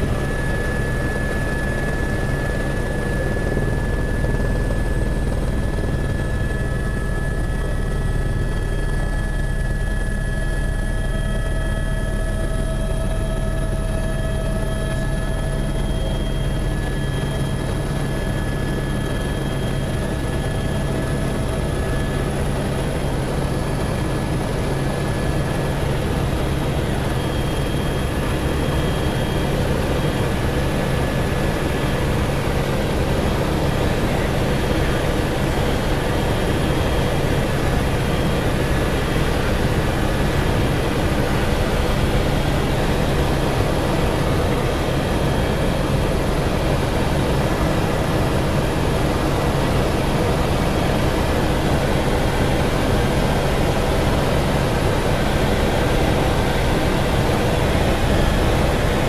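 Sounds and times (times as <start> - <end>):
helicopter rotor and engine rumble: 0.0 - 59.0
high-pitched turbine whine: 0.0 - 59.0.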